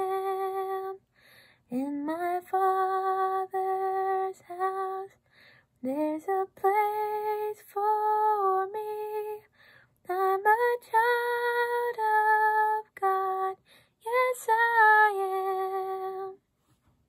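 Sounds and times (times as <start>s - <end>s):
woman singing unaccompanied: 0.0s - 1.0s, 1.7s - 5.2s, 5.8s - 9.5s, 10.1s - 16.4s.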